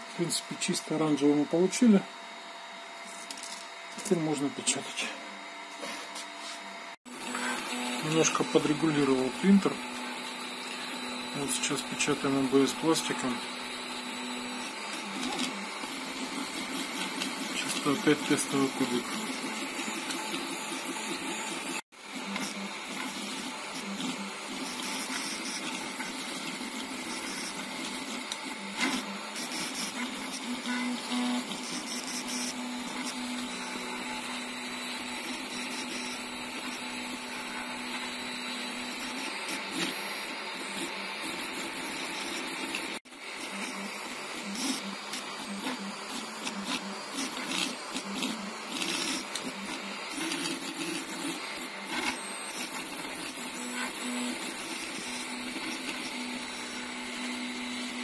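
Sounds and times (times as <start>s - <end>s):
steady hum: 6.6s - 58.0s
stepper motors whirring: 7.0s - 58.0s.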